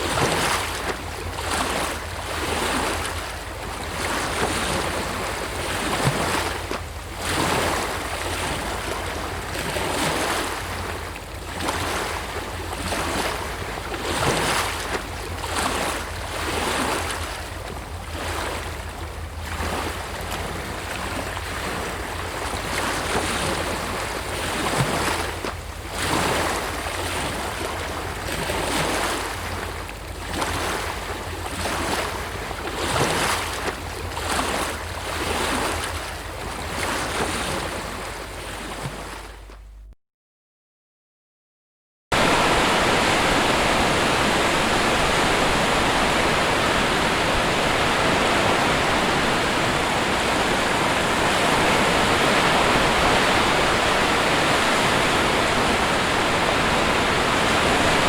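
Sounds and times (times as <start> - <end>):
sea waves breaking: 0.0 - 39.7, 42.1 - 58.0.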